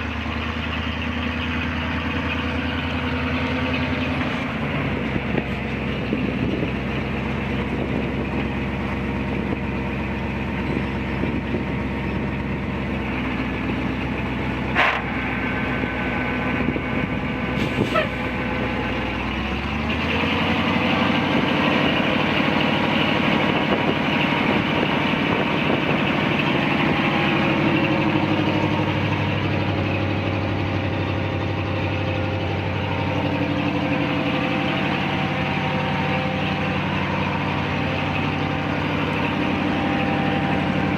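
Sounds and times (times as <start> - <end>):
truck engine idling: 0.0 - 40.9.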